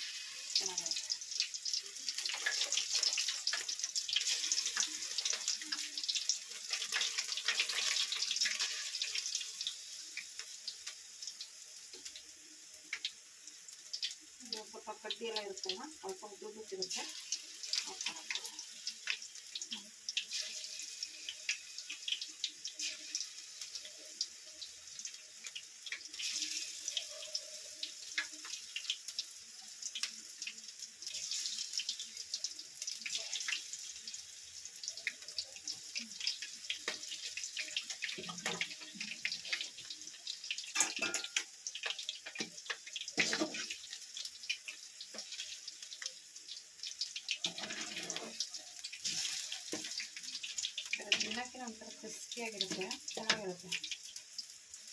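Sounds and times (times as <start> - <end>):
fritters deep-frying in oil: 0.0 - 54.9.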